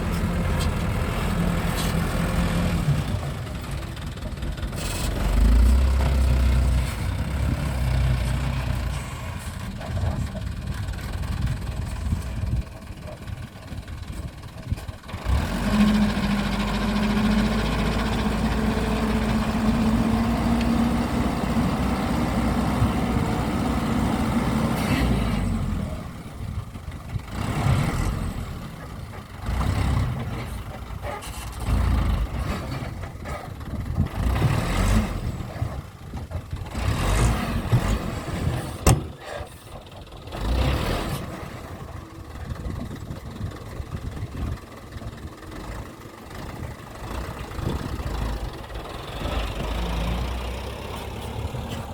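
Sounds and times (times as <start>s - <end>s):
vehicle motor humming: 0.0s - 51.9s.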